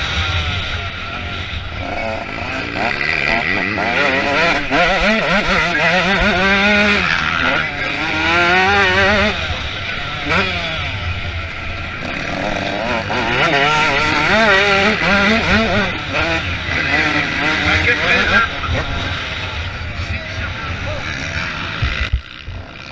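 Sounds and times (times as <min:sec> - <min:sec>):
motocross bike engines revving: 0:00.0 - 0:22.9.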